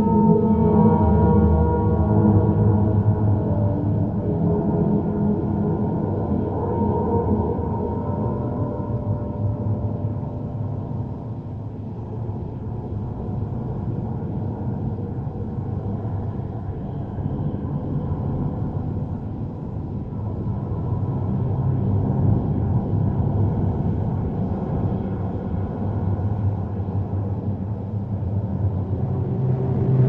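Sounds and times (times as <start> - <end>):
low rumbling drone: 0.0 - 30.0.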